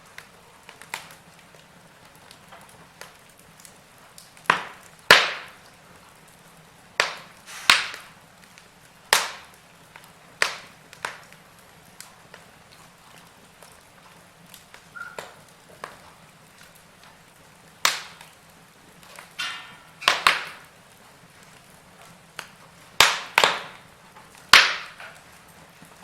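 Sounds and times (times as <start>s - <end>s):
logs crackling in a fireplace: 0.0s - 26.0s.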